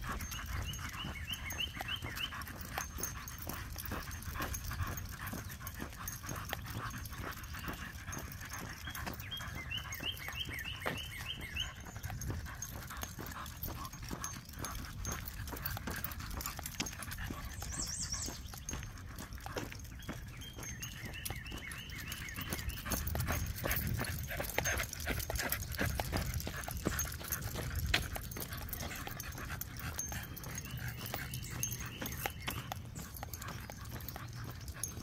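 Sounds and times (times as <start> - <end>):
dogs panting: 0.0 - 35.0
footsteps on paved path: 0.0 - 35.0
small clicks on pavement: 0.0 - 35.0.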